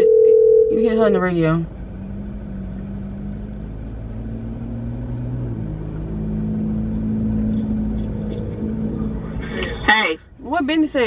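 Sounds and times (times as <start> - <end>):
low hum inside car: 0.0 - 11.0.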